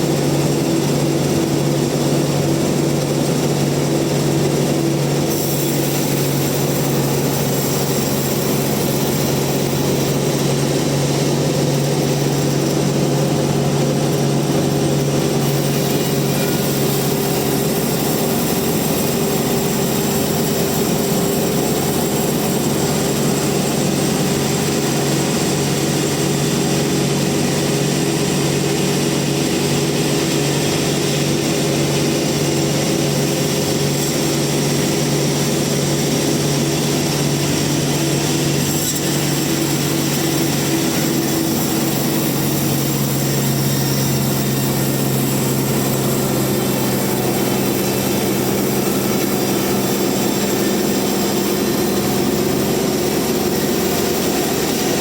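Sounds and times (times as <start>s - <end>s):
band sawmill humming: 0.0s - 55.0s.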